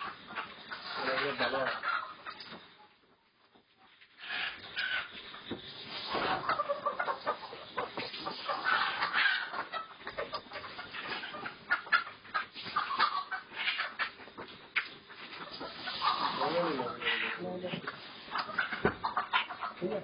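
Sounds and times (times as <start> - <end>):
hens clucking and squawking: 0.0 - 20.0.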